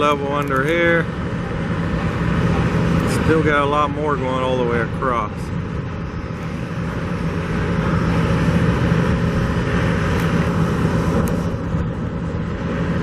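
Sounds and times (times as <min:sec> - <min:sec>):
engine-like rumble with low hum: 0:00.0 - 0:13.0.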